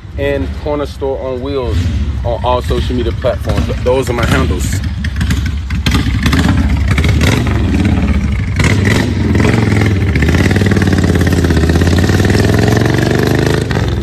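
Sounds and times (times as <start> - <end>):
motorcycle engine accelerating: 1.6 - 14.0.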